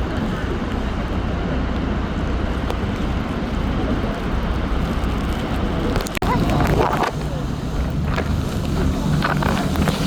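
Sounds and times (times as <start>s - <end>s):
boat engine running: 0.0s - 10.0s
wind and water rushing: 0.0s - 10.0s.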